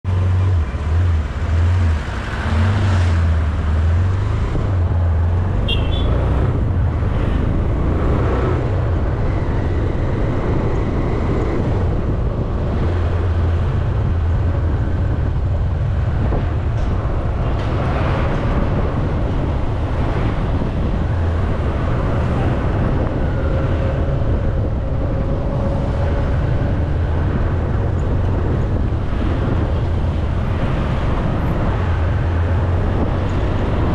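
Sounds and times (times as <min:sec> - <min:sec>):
motorbikes and trucks passing: 0:00.1 - 0:33.9.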